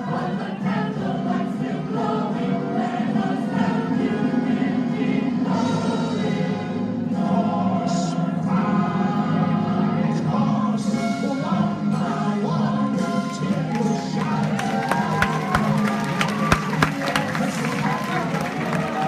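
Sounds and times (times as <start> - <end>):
choir singing with instrumental backing: 0.0 - 19.0.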